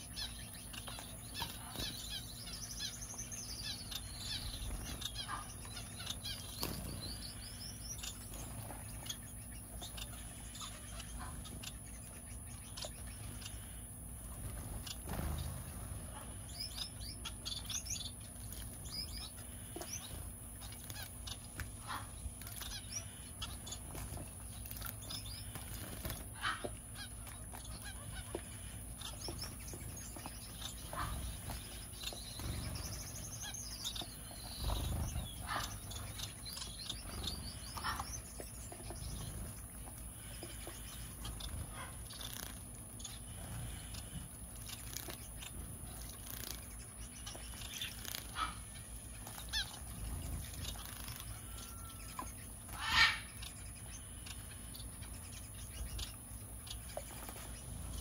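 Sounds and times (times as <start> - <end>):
finches and parakeets calling: 0.0 - 58.0.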